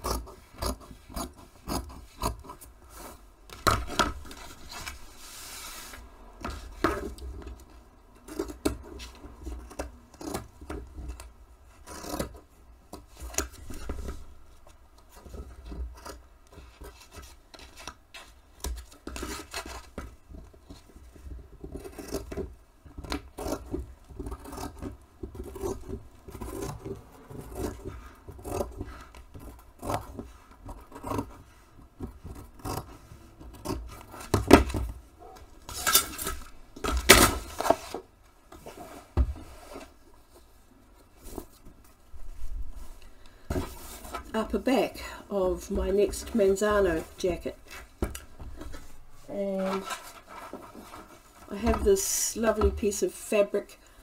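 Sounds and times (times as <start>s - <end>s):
fabric and cardboard rustling: 0.3s - 7.8s, 13.0s - 53.0s.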